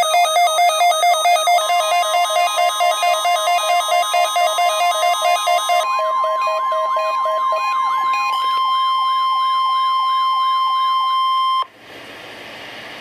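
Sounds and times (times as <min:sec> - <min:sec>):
steady alarm tone: 0:00.0 - 0:11.7.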